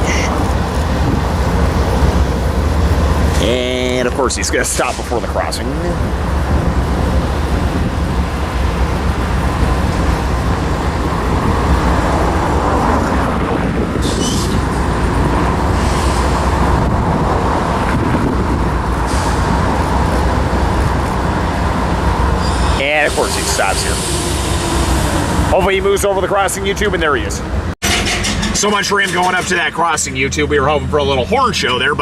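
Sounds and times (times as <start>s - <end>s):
low engine rumble: 0.0s - 32.0s
noisy background: 0.0s - 32.0s.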